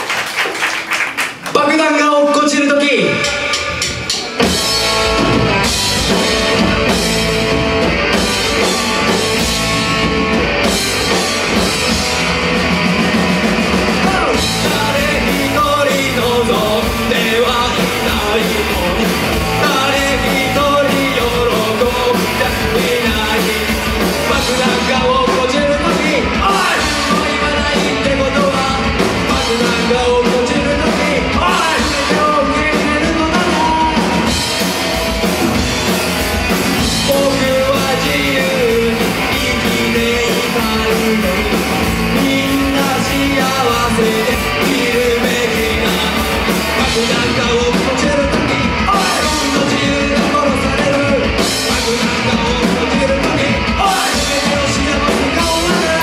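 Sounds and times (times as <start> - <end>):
punk rock band playing: 0.0 - 56.0
male lead singer: 1.5 - 56.0.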